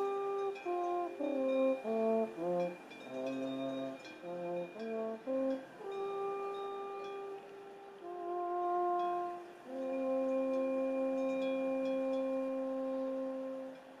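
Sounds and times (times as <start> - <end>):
alphorn playing long notes: 0.0 - 14.0.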